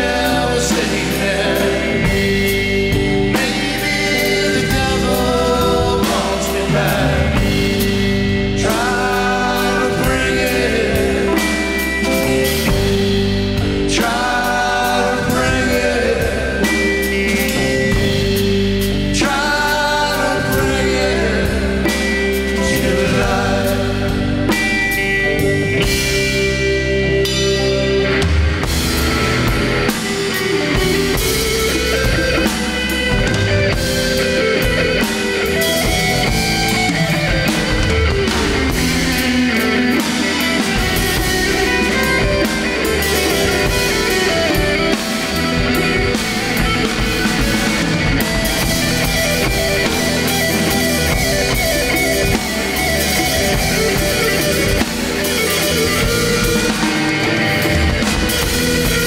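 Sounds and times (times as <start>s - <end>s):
bass guitar: 0.0s - 59.0s
drum kit: 0.0s - 59.0s
electric guitar lead: 0.0s - 59.0s.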